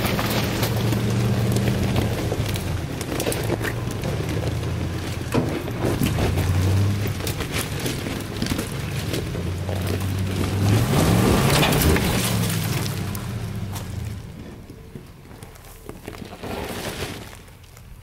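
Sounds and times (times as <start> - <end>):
truck engine revving: 0.0 - 15.4
gravel crunching under tyres: 0.0 - 18.0.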